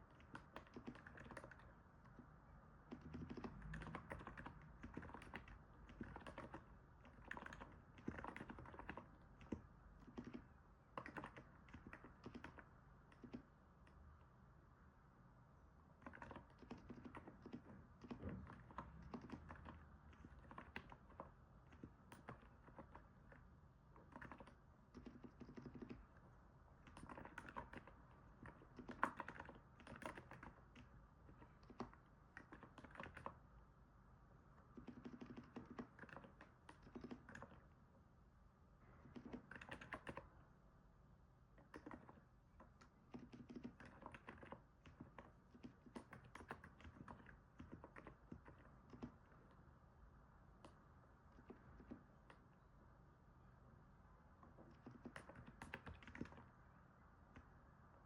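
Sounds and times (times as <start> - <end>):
soft keyboard keystrokes: 0.0 - 14.0, 15.9 - 33.5, 34.5 - 37.8, 38.9 - 40.4, 41.4 - 49.6, 50.4 - 52.7, 54.4 - 57.8.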